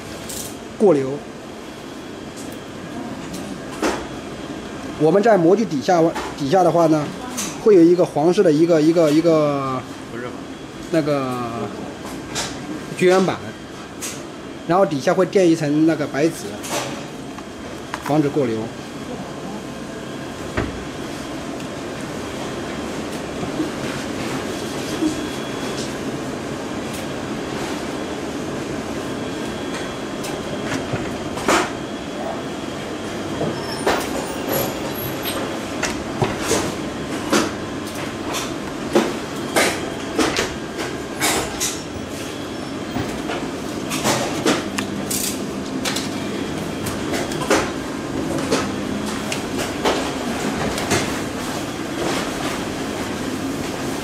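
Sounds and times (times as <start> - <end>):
steady machine hum: 0.0 - 54.0.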